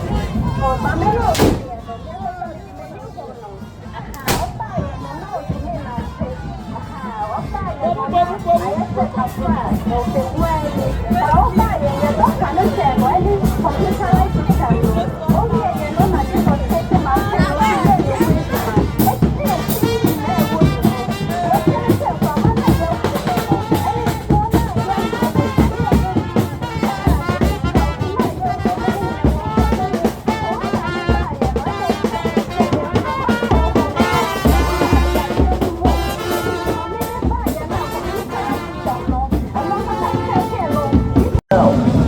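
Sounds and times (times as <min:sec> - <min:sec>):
brass band with drums: 0:00.0 - 0:42.0.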